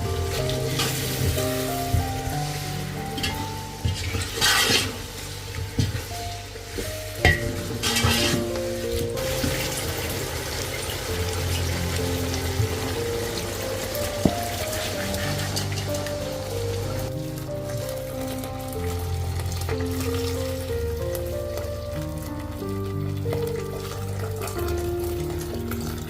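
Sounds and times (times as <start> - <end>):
food sizzling in a pan: 0.0 - 21.4
soft background music: 0.0 - 26.0
stirring in a pan: 0.0 - 26.0.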